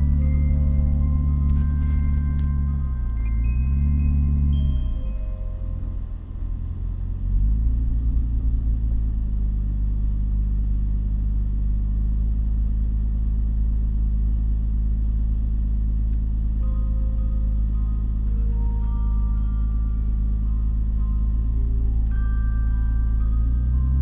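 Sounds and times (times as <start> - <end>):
vehicle engine under load: 0.0 - 24.0.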